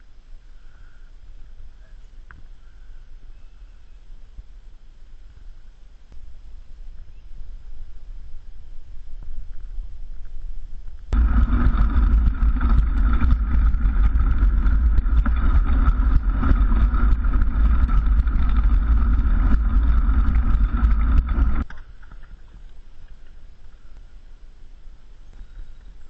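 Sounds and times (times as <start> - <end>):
bicycle rattling on a trail: 0.5 - 24.4, 25.2 - 26.0
wind rushing on camera: 3.9 - 26.0.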